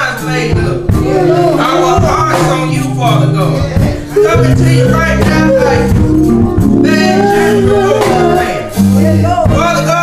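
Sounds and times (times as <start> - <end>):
person singing: 0.0 - 10.0
sustained chords and bass line: 0.0 - 10.0.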